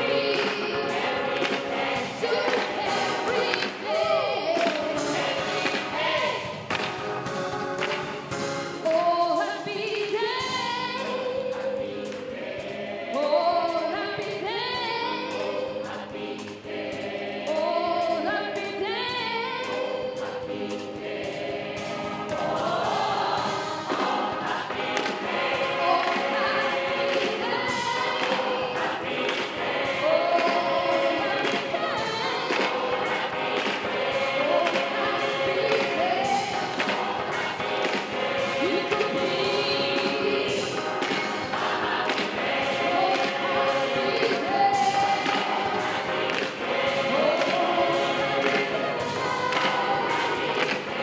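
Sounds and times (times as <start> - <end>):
choir singing: 0.0 - 51.0
drum kit: 0.0 - 51.0
keyboard: 0.0 - 51.0.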